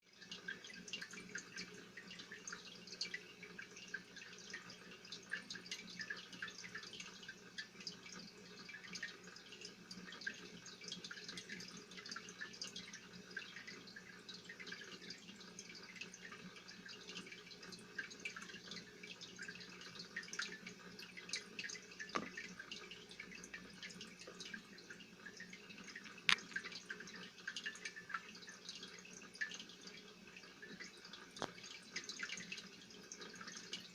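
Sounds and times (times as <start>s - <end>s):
aquarium water bubbling: 0.1s - 33.9s.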